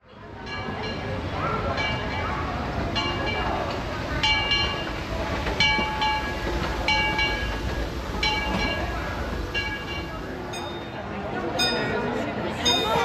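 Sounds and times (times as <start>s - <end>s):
low rumble of train: 0.0s - 13.0s
locomotive bell ringing: 0.3s - 13.0s.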